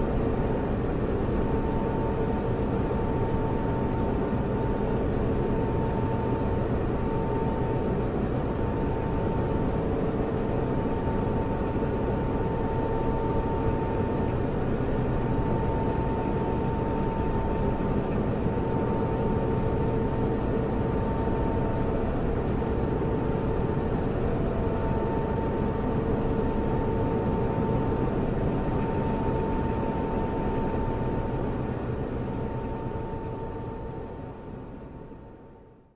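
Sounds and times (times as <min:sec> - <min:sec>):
server cooling fan rushing: 0:00.0 - 0:35.8.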